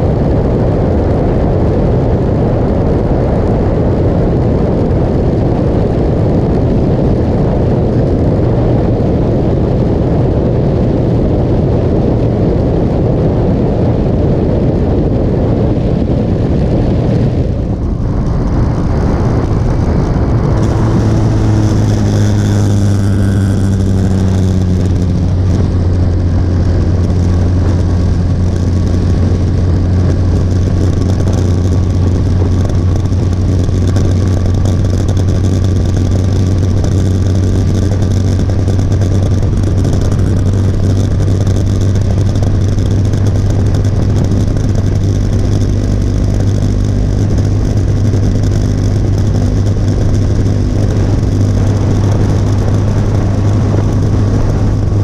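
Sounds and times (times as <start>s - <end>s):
motorcycle engine droning: 0.0s - 55.0s
wind and road noise: 0.0s - 55.0s.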